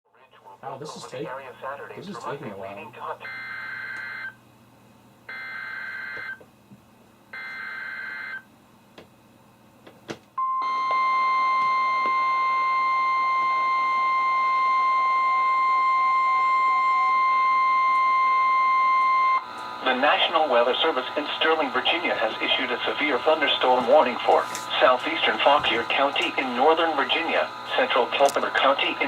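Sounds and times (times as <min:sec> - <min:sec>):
steady loud warning tone: 0:00.6 - 0:04.4, 0:05.3 - 0:06.5, 0:07.3 - 0:08.5, 0:10.4 - 0:29.0.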